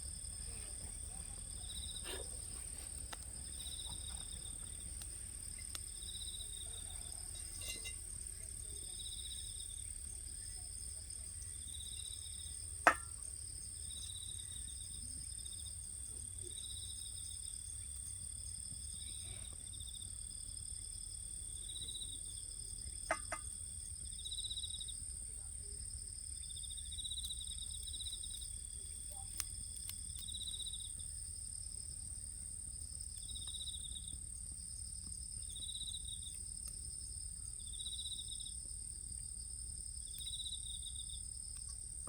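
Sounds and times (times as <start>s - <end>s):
insects singing: 0.0s - 41.7s.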